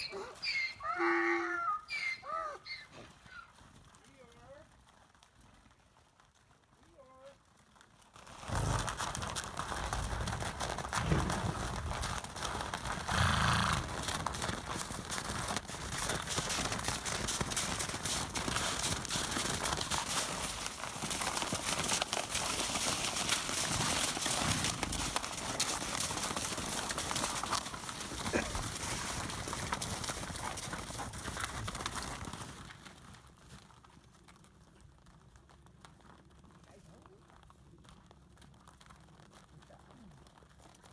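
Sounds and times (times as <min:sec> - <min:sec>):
hooves crunching on snow: 0:00.0 - 0:40.9
rustling: 0:02.9 - 0:40.9.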